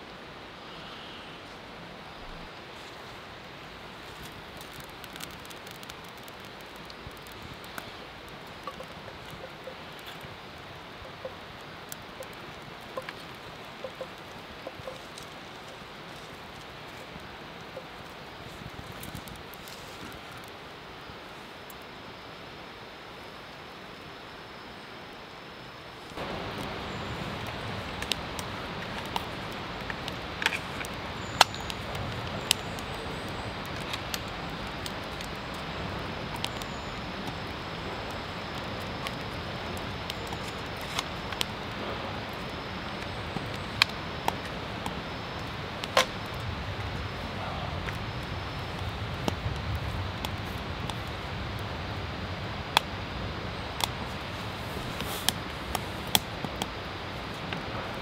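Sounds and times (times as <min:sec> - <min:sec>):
fire hissing: 0:00.0 - 0:58.0
twigs crackling and popping: 0:02.4 - 0:21.9, 0:26.0 - 0:58.0.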